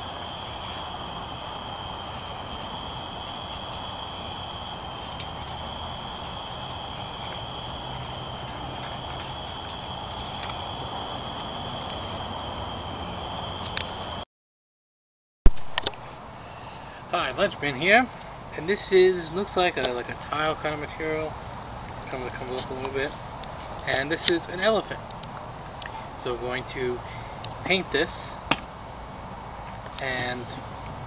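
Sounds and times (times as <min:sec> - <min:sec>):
insects trilling: 0:00.0 - 0:14.2, 0:15.8 - 0:31.0.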